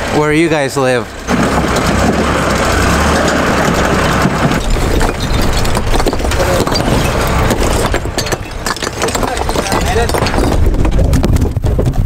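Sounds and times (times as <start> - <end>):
diesel engine running: 0.0 - 11.3
bricks clattering: 1.2 - 12.0.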